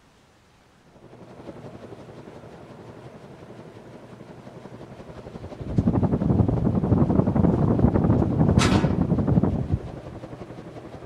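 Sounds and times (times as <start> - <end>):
ceiling fan whirring: 0.0 - 11.0.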